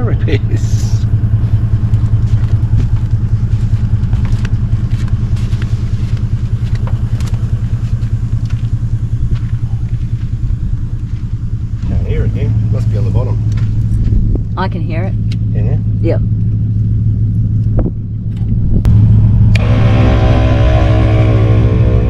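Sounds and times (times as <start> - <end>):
air compressor pulsing hum: 0.0 - 22.0.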